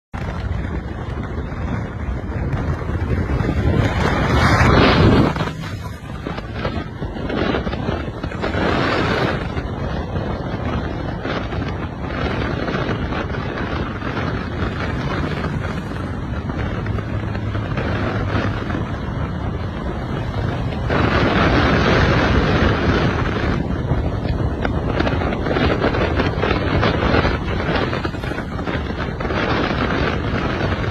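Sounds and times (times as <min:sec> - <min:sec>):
turbocharged car engine: 0:00.1 - 0:30.9
wind buffeting microphone: 0:00.1 - 0:30.9
turbo fluttering: 0:00.2 - 0:30.9.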